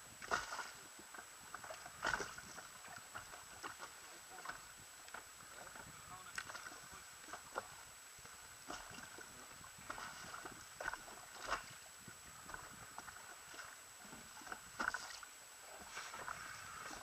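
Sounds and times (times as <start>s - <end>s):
small waves slapping boat: 0.0s - 17.0s.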